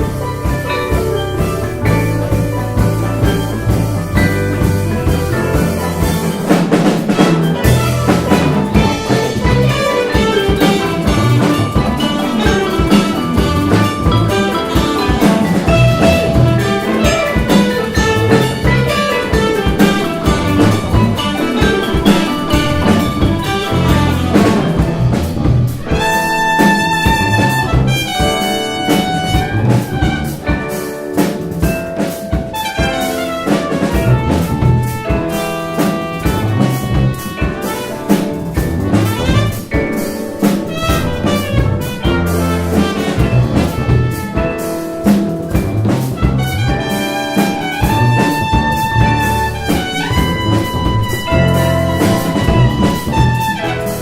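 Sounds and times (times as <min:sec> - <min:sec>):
long held high notes: 0:00.0 - 0:31.1, 0:32.5 - 0:54.0
jazz fusion band playing: 0:00.0 - 0:54.0.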